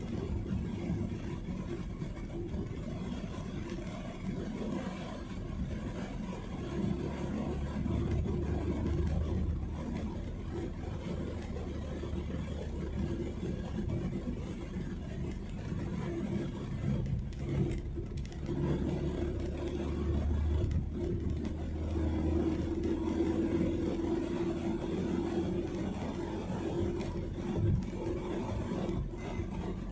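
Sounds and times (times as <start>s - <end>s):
car engine and tyre rumble: 0.0s - 29.9s.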